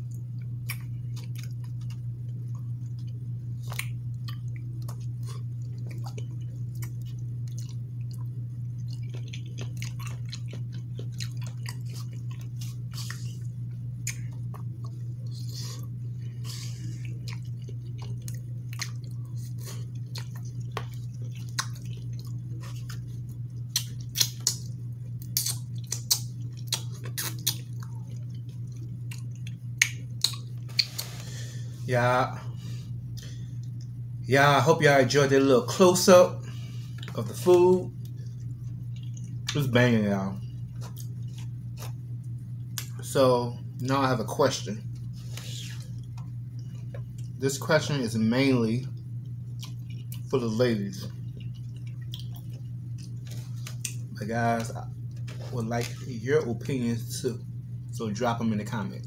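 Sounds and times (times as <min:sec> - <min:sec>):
chewing with wet mouth clicks: 0:00.0 - 0:31.3, 0:33.1 - 0:34.2, 0:36.7 - 0:39.8, 0:40.4 - 0:43.9, 0:44.8 - 0:47.6, 0:48.8 - 0:58.0
steady low hum: 0:00.0 - 0:59.0.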